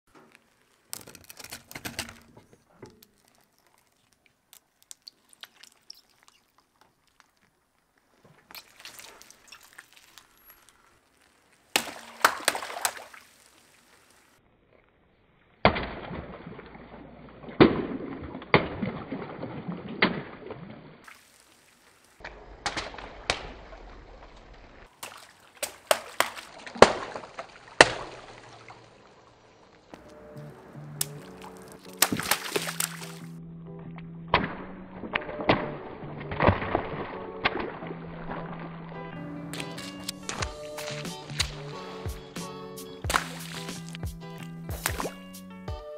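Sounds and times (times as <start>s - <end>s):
water balloons popping: 0.1s - 14.4s, 15.6s - 21.6s, 22.2s - 29.2s, 29.9s - 33.4s, 34.3s - 45.9s
water splashing on pavement: 0.3s - 14.4s, 15.6s - 33.4s, 35.1s - 45.3s.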